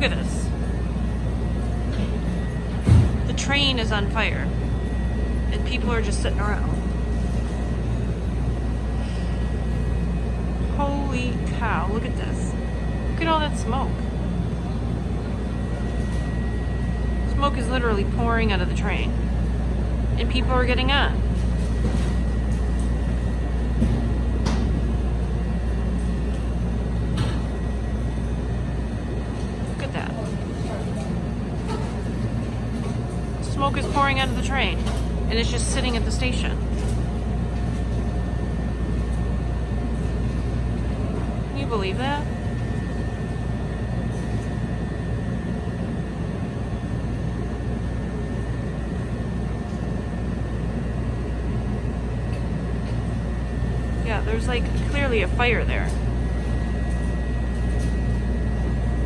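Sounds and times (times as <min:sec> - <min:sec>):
faint steady whine: 0:00.0 - 0:59.0
rail car rumble and hum: 0:00.0 - 0:59.0.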